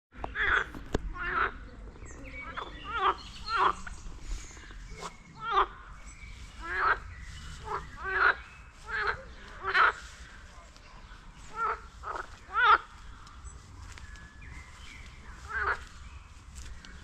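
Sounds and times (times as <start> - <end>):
frogs croaking: 0.2 - 17.0.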